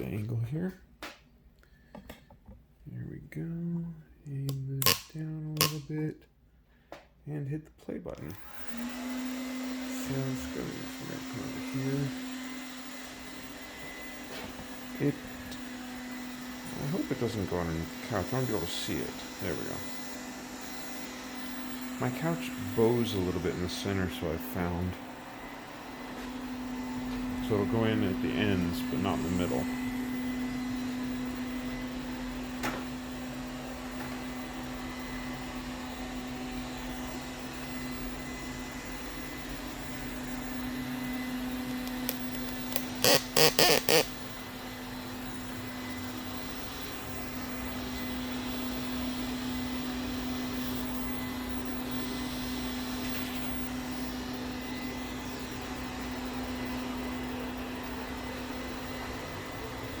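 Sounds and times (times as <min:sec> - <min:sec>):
robot vacuum motor hum: 0:08.4 - 1:00.0.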